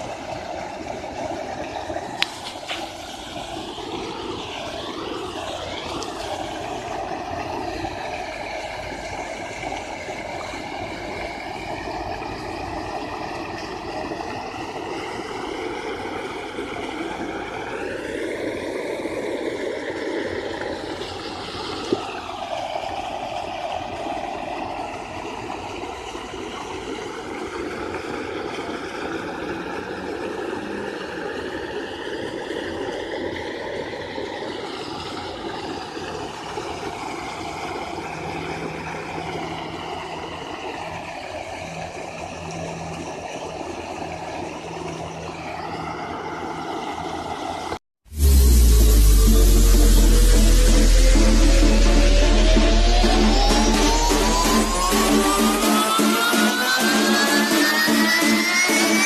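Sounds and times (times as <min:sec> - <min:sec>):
vehicle running noise: 0:00.0 - 0:31.4, 0:34.1 - 0:59.0.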